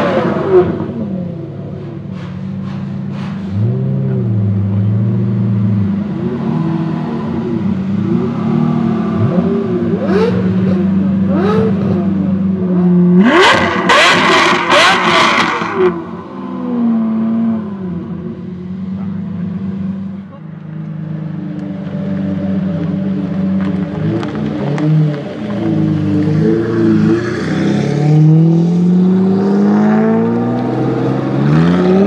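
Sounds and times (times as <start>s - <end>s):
sports car engine idling and revving: 0.0s - 32.0s.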